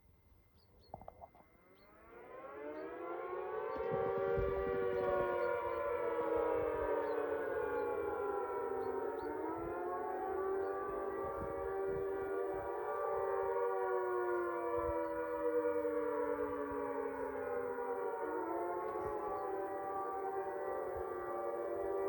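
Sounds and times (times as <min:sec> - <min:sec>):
civil defence siren: 0:00.9 - 0:22.0.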